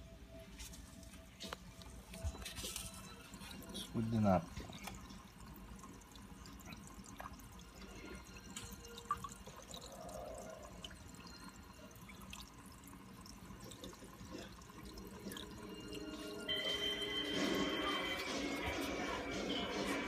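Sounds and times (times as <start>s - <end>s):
water trickling and dripping: 1.0s - 20.0s.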